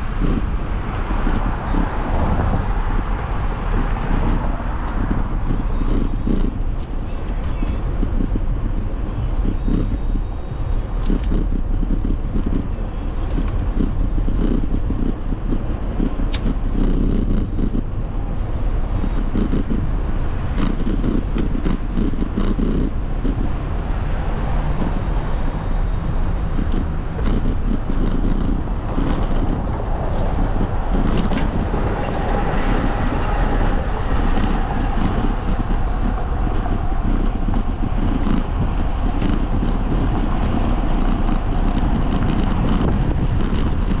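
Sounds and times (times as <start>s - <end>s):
low road rumble: 0.0s - 44.0s
wind buffeting microphone: 0.0s - 44.0s.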